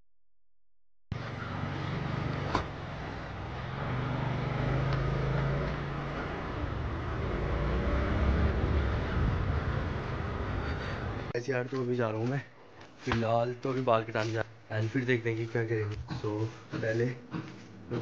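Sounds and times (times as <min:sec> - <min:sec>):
road and street noise: 0:01.1 - 0:18.0.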